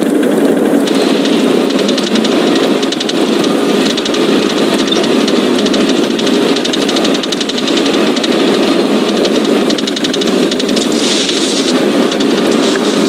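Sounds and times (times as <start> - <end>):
car engine and road noise: 0.0 - 13.0
fast light ticking: 0.8 - 13.0.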